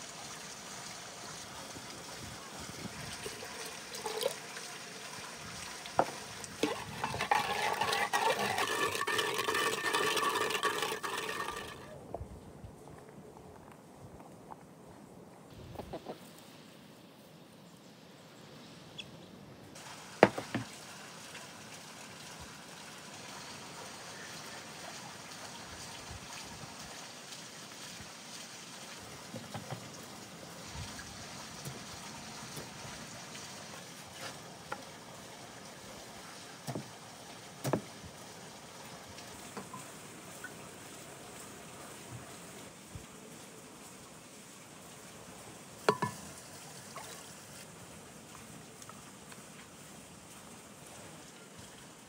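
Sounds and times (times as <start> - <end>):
faint outdoor hiss: 0.0 - 52.0.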